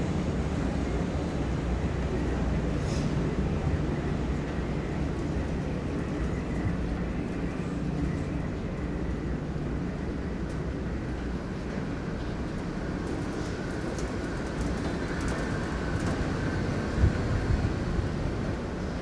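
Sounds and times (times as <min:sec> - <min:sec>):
ferry engine low rumble: 0:00.0 - 0:19.0.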